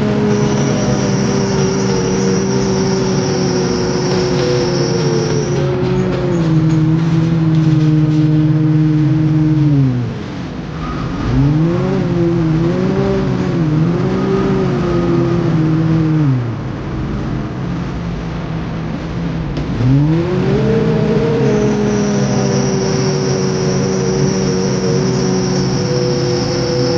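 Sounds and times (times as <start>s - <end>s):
earthmoving machine diesel engine revving: 0.0s - 26.9s
high steady whine: 0.0s - 26.9s.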